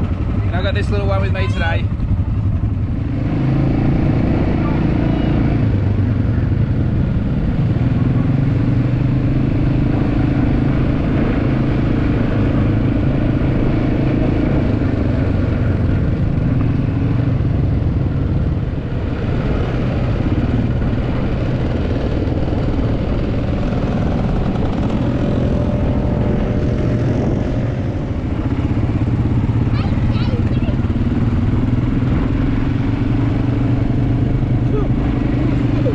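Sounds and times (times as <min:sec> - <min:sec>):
quad bike engine running: 0:00.0 - 0:35.9.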